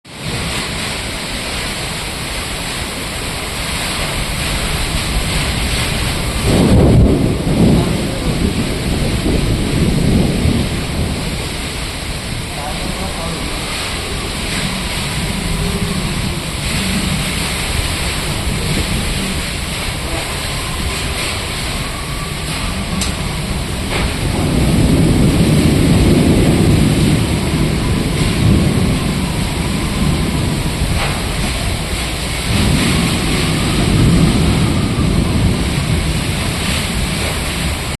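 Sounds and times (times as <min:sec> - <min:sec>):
steady rain falling: 0:00.0 - 0:38.0
low thunder rumbling: 0:00.1 - 0:38.0.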